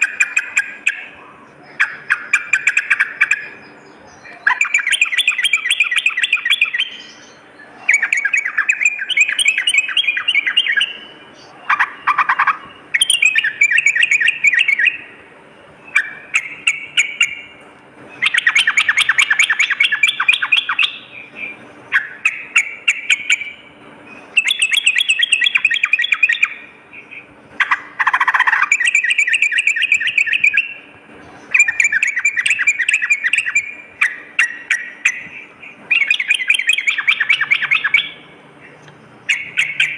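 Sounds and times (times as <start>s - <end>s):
bulbul bubbling chattering song: 0.0s - 15.2s, 15.9s - 39.9s.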